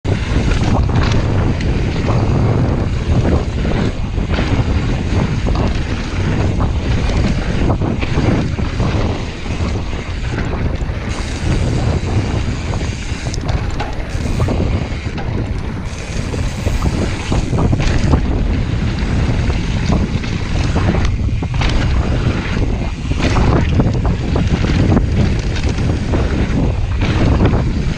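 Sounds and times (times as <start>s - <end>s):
bike rattling over bumps: 0.0s - 27.9s
bike tyres rolling on dirt: 0.0s - 27.9s
wind buffeting microphone: 0.0s - 27.9s.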